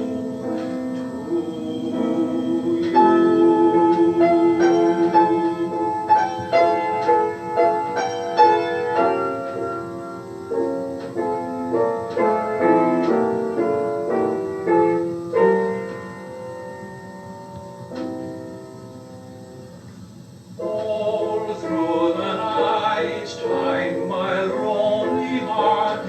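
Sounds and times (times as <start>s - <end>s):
solo piano playing: 0.0s - 26.0s.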